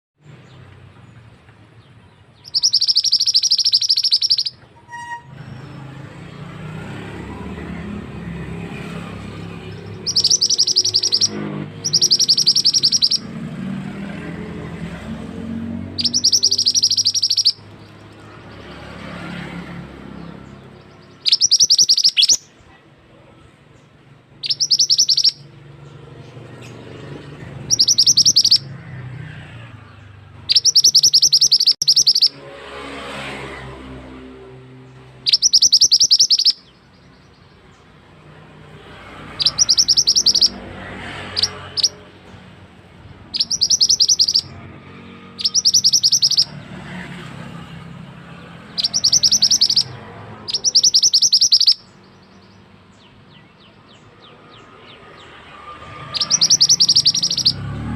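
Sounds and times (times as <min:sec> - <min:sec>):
bird high-pitched chipping calls: 0:02.1 - 0:06.2, 0:07.0 - 0:22.7, 0:23.7 - 0:32.4, 0:35.0 - 0:57.9.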